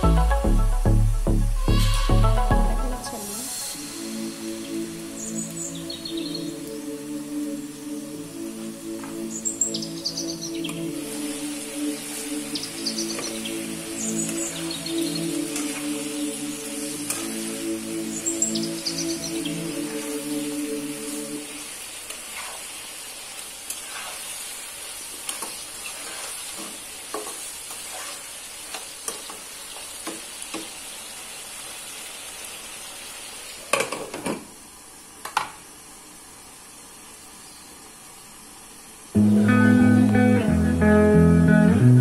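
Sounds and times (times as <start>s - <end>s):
vegetables sizzling in oil: 0.0s - 41.9s.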